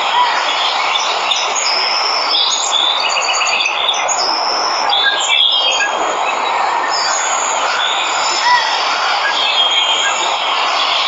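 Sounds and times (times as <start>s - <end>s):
birds chirping and trilling: 0.0s - 11.0s
waterfall rushing: 0.0s - 11.0s.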